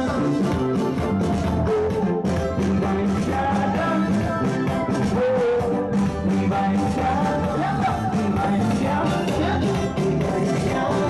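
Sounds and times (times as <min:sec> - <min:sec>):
live band music: 0:00.0 - 0:11.0
man singing: 0:00.0 - 0:11.0.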